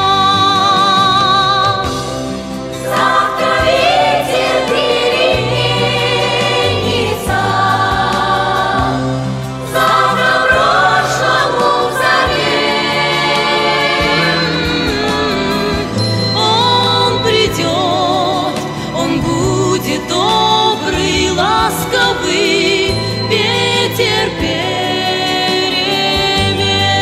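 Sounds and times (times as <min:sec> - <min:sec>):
steady bass accompaniment: 0:00.0 - 0:27.0
choir singing long notes: 0:02.7 - 0:26.5.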